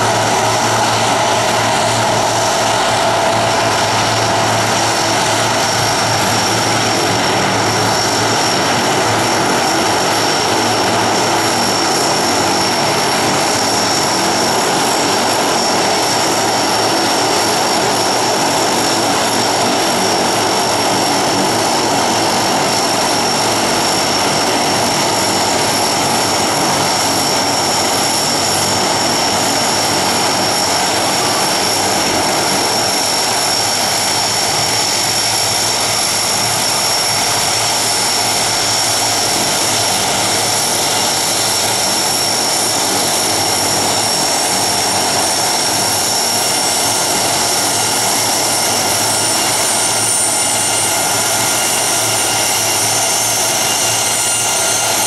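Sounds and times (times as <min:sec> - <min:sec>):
aircraft engines rushing: 0:00.0 - 0:55.0
high-pitched engine whine: 0:00.0 - 0:55.0.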